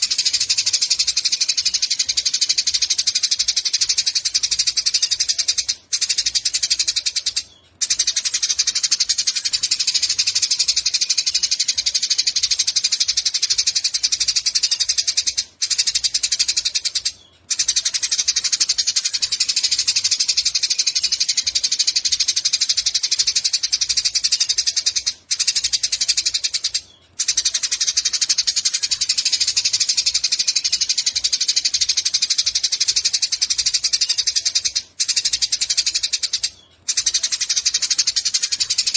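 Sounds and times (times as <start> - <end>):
sparrow chirping: 0.0 - 38.9.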